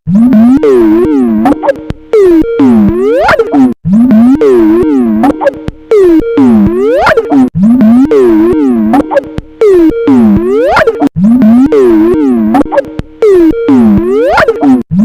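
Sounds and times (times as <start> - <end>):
warped synth ringtone: 0.1 - 15.0.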